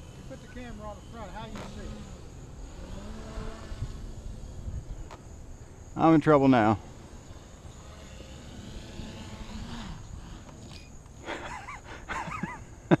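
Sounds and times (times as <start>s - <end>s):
quadcopter motors whirring: 0.0s - 13.0s.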